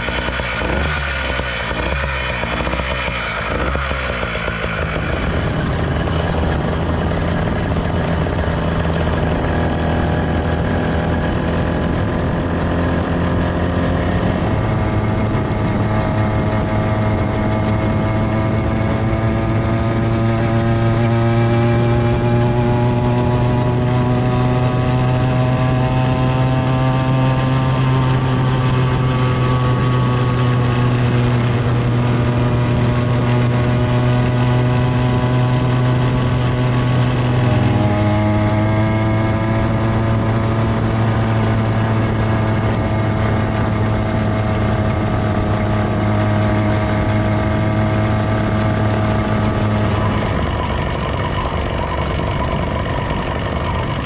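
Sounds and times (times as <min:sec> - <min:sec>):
two-stroke bicycle engine buzzing: 0:00.0 - 0:54.0.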